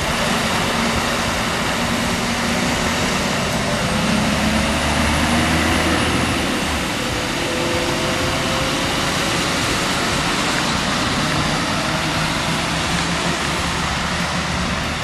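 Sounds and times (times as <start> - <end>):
rushing road noise: 0.0 - 15.0
vehicle engine: 0.0 - 15.0.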